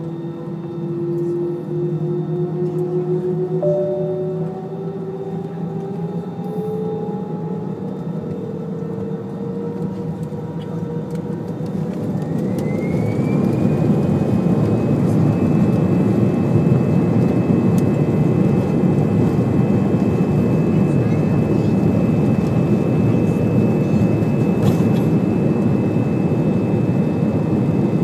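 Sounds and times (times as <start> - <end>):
rising engine whine: 0.0 - 28.0
jet engines spooling up: 4.3 - 28.0.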